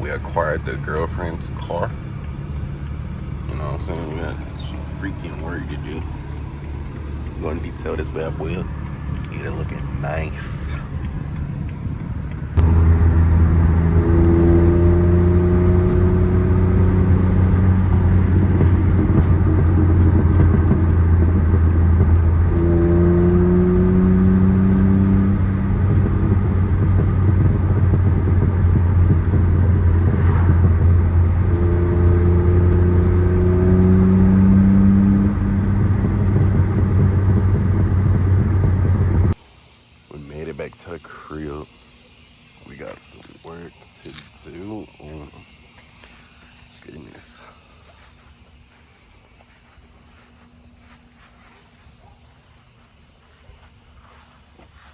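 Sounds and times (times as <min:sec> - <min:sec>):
car engine and road noise: 0:00.0 - 0:39.4, 0:43.5 - 0:54.9.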